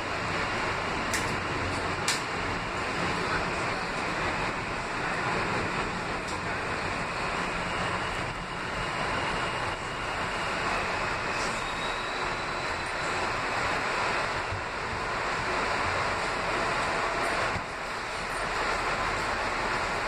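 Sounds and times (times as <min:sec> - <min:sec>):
subway car rumble and hiss: 0:00.0 - 0:20.0.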